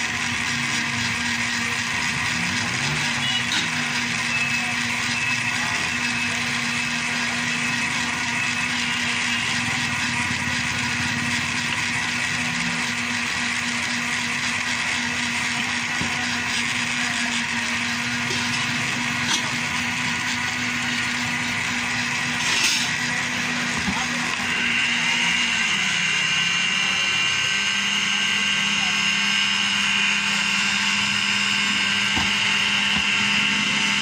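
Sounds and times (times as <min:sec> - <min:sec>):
blender motor running: 0:00.0 - 0:34.0.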